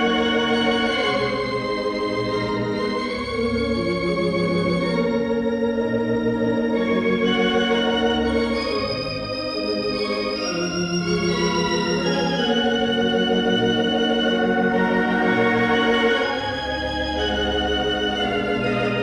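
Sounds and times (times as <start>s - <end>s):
pipe organ chords: 0.0s - 19.0s.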